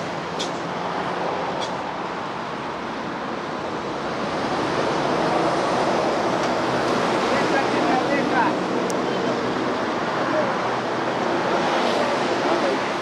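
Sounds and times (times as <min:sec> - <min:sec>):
heavy highway traffic: 0:00.0 - 0:13.0
large vehicles passing close: 0:00.0 - 0:13.0.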